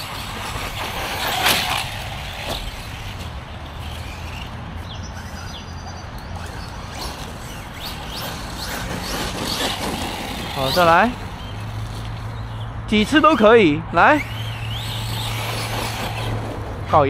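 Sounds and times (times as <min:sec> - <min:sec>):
electric motor whine: 0:00.0 - 0:13.4, 0:14.2 - 0:16.9
tyre noise: 0:00.0 - 0:17.0.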